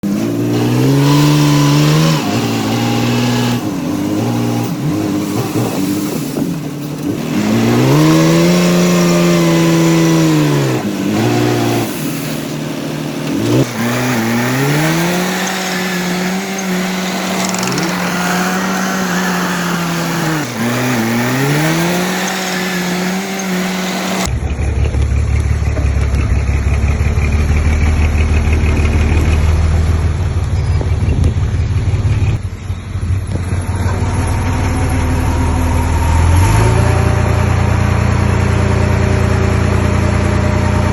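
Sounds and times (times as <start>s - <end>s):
earthmoving machine diesel revving: 0.0s - 40.9s.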